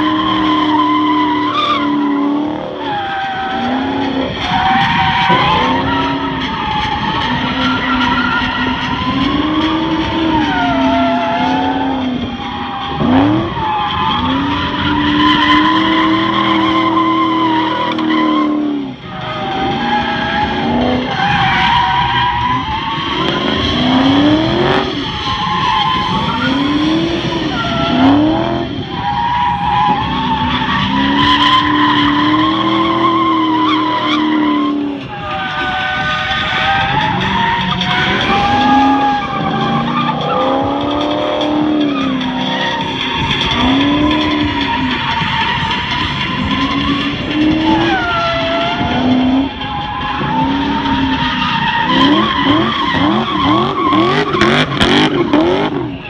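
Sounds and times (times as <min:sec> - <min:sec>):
car engine revving: 0:00.0 - 0:56.0
tyre squeal: 0:00.0 - 0:56.0.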